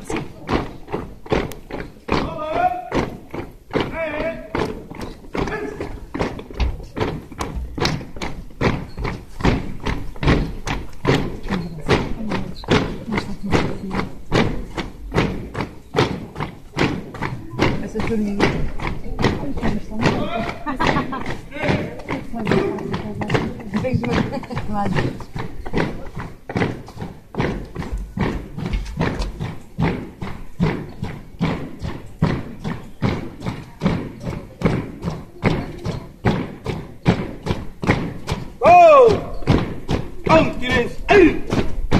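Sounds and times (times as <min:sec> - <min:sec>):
boots marching on pavement: 0:00.0 - 0:41.9.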